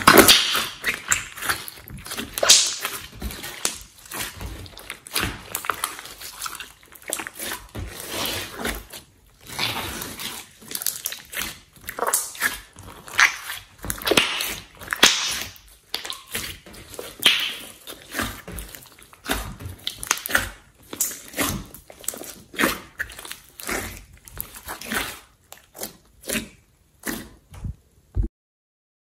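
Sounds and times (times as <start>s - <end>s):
slime squishing and squelching: 0.0s - 27.6s.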